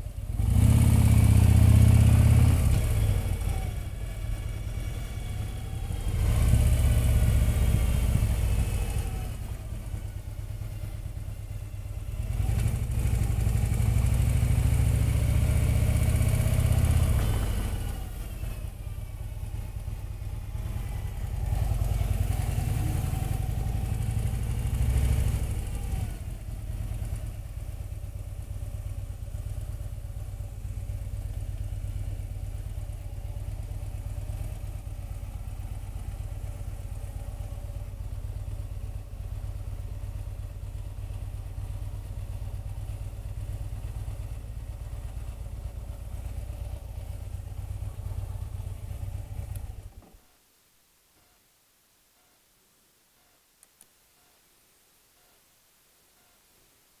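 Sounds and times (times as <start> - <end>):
motorcycle engine pulling away: 0.0 - 50.0.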